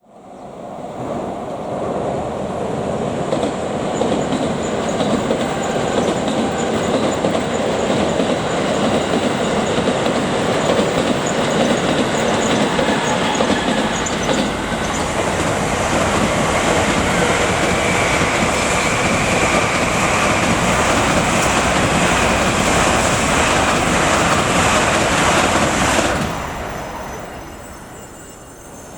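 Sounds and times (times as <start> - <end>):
train wheels on rails: 0.4 - 28.9.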